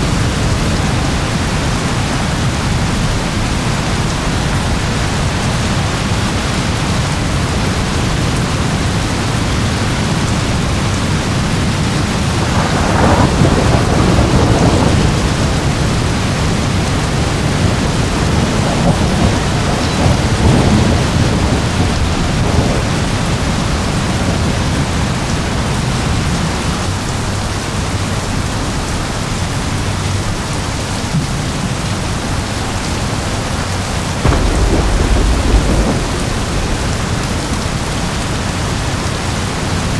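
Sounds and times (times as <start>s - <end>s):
rolling thunder: 0.0s - 27.4s, 30.6s - 39.9s
heavy rain: 0.0s - 39.9s.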